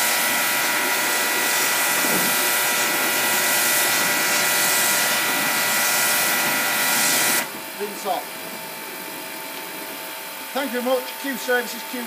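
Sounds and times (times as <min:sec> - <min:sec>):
pressure washer water jet hissing: 0:00.0 - 0:12.0
pump whining: 0:00.0 - 0:12.0.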